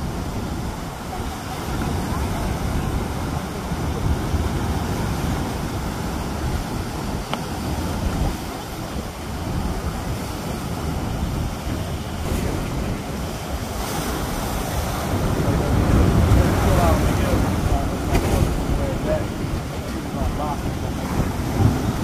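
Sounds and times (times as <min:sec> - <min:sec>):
surf breaking on rocks: 0:00.0 - 0:22.0
wind rumble on microphone: 0:00.0 - 0:22.0.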